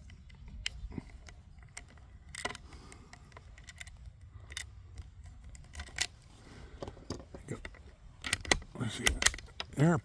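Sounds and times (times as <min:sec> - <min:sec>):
rifle bolt clicks and rattles: 0:00.0 - 0:09.9.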